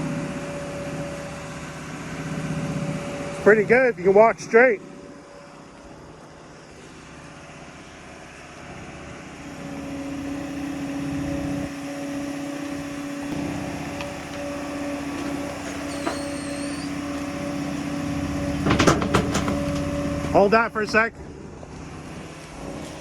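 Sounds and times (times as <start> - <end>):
excavator diesel engine: 0.0 - 23.0
hydraulic whine: 0.0 - 23.0.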